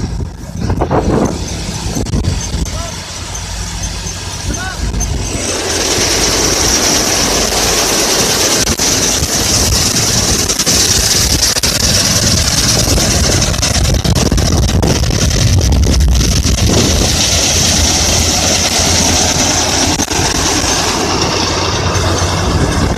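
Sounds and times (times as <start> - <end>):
combine harvester engine rumbling: 0.0 - 22.9
constant high hiss: 0.0 - 22.9.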